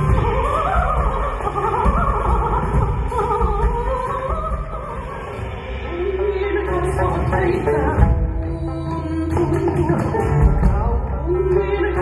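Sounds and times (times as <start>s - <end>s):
live band music: 0.0s - 12.0s
woman singing: 0.0s - 12.0s.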